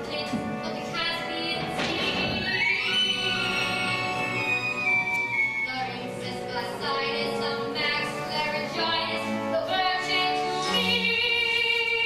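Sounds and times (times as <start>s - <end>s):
woman singing: 0.0s - 3.2s, 5.3s - 12.0s
instrumental accompaniment: 0.0s - 12.0s.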